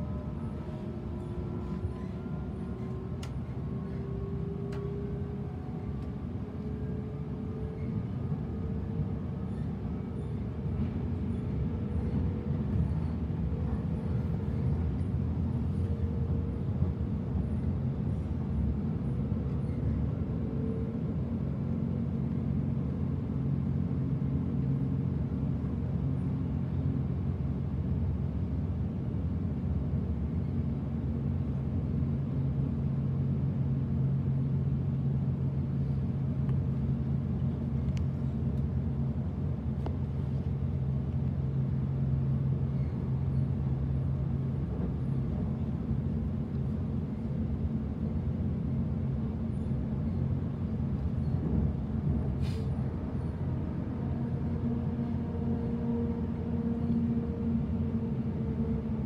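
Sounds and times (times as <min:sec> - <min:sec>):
electric train rumble: 0:00.0 - 0:59.0.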